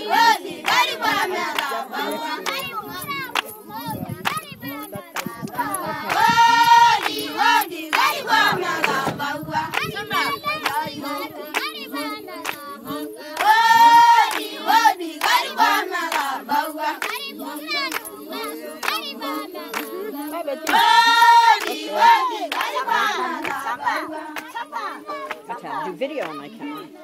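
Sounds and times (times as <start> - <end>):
hand-clapping beat: 0.0 - 27.0
women singing together: 0.0 - 27.0.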